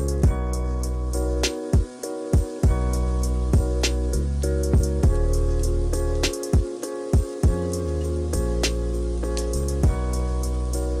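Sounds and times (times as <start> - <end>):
held chords over drum beat: 0.0 - 11.0.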